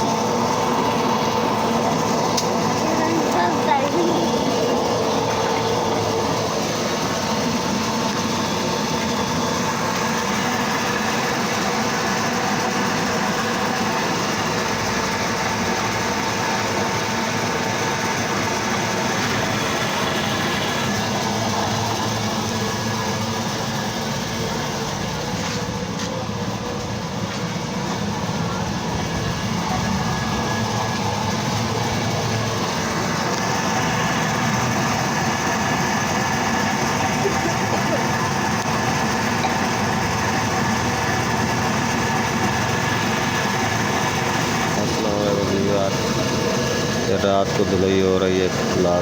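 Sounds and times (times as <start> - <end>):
machine running rumble: 0.0 - 49.0.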